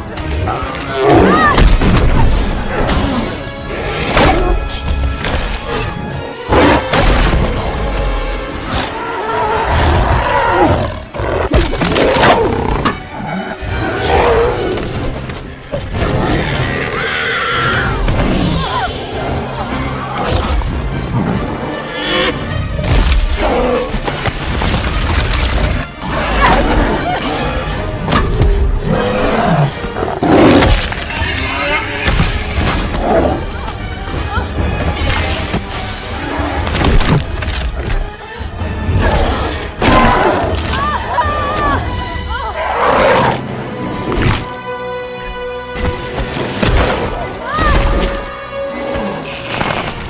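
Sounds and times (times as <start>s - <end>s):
dramatic film music: 0.0s - 50.0s
orchestral score: 0.0s - 50.0s.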